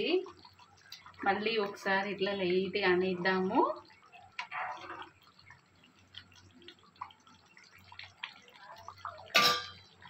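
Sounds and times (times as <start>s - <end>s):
curry bubbles popping: 0.0s - 10.0s.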